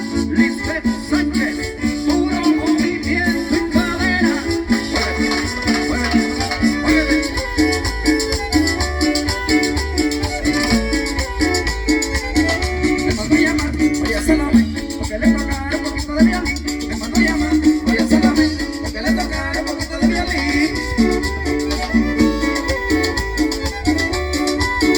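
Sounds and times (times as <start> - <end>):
upright bass line: 0.0 - 24.9
violin melody: 0.0 - 24.9.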